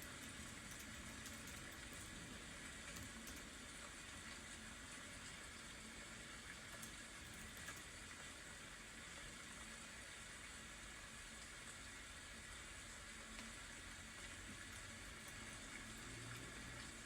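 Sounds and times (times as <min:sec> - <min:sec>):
faint rain: 0:00.0 - 0:17.0.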